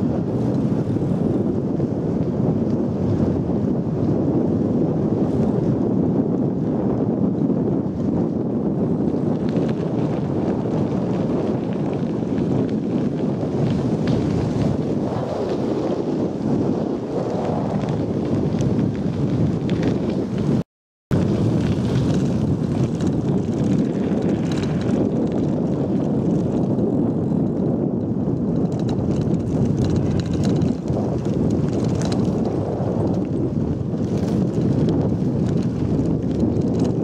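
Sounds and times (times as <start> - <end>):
bicycle tyres on gravel: 0.0 - 37.0
wind rumble on microphone: 0.0 - 37.0.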